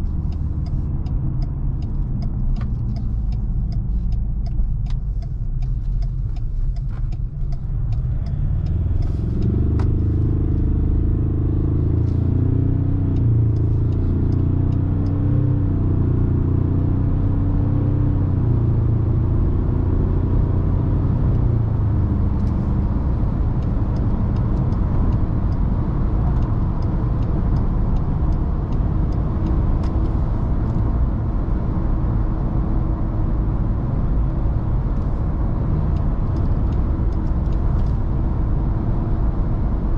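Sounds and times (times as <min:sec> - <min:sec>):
truck engine from inside cabin: 0:00.0 - 0:39.9
tyre and road rumble: 0:00.0 - 0:39.9.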